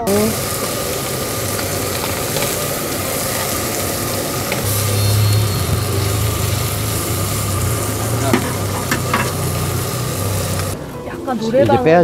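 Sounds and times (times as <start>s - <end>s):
pork sizzling on grill pan: 0.0s - 10.8s
low hum: 0.3s - 10.8s.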